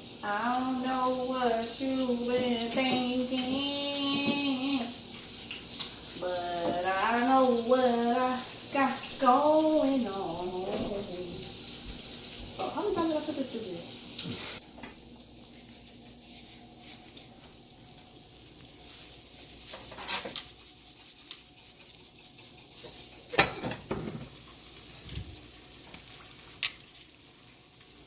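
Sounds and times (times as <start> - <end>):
chicken frying in hot oil: 0.0 - 28.0.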